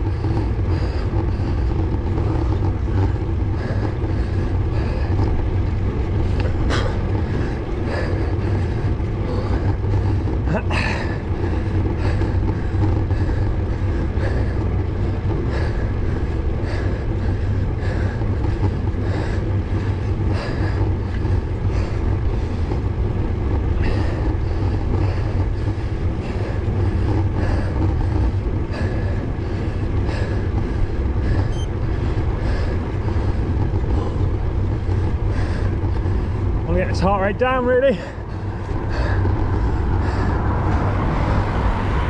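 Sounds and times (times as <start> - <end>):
soft regular pulse: 0.0 - 36.7
low wind rumble on microphone: 0.0 - 42.0.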